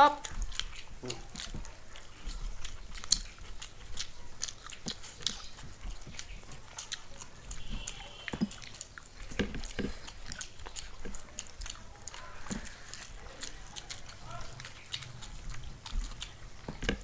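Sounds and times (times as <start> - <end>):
people chewing food: 0.0 - 17.0.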